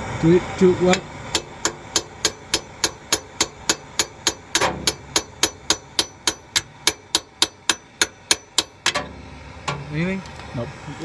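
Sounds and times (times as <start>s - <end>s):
hammer striking metal bolt: 0.9s - 9.9s.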